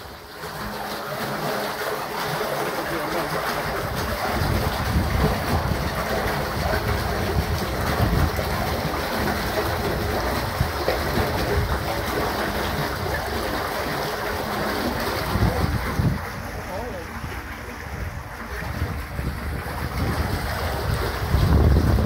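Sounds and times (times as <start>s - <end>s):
wastewater rushing and churning: 0.0s - 22.0s.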